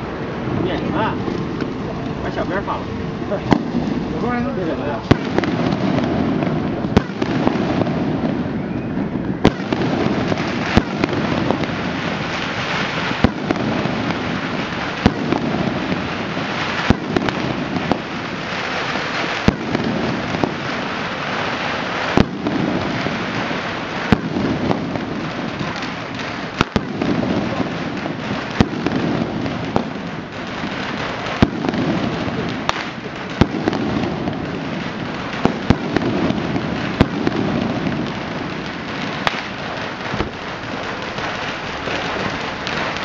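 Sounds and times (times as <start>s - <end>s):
firecracker bangs: 0.0s - 43.0s
fireworks crackling: 0.0s - 43.0s.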